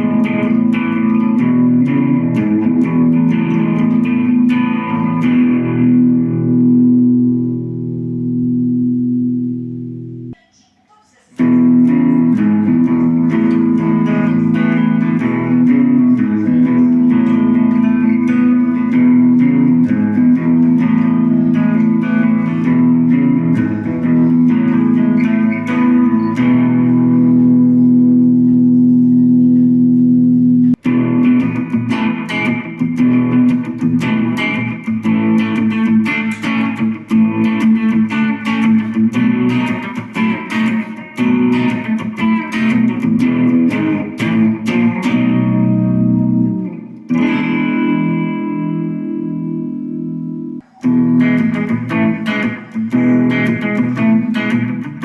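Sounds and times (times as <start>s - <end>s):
electric guitar playing: 0.0s - 10.4s, 11.4s - 55.0s.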